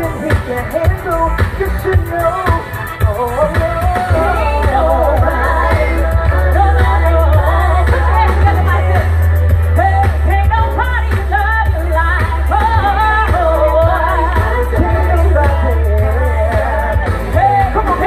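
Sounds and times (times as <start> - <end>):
band with heavy bass: 0.0 - 18.0
person singing gospel: 0.0 - 18.0.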